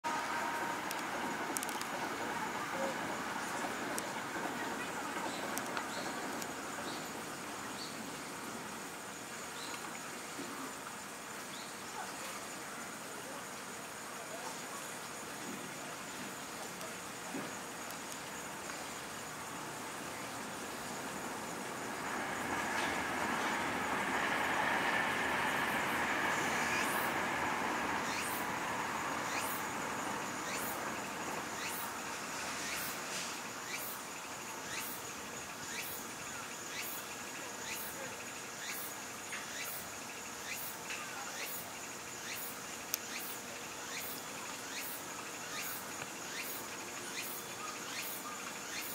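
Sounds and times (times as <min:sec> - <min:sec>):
insect chirping: 0:00.0 - 0:48.9
outdoor background noise: 0:00.0 - 0:48.9.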